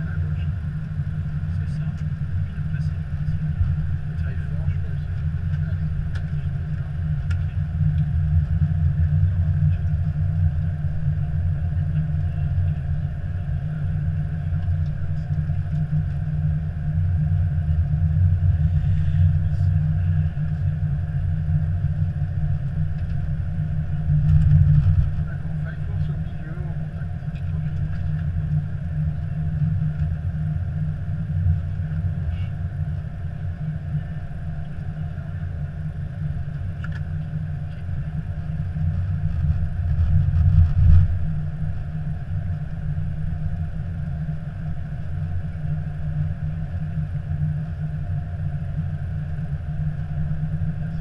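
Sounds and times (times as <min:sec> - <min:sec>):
airliner cockpit rumble: 0:00.0 - 0:51.0.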